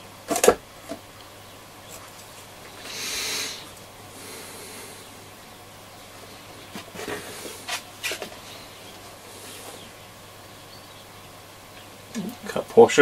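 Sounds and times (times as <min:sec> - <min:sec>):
faint steady hum: 0:00.0 - 0:13.0
soft hiss: 0:01.1 - 0:13.0.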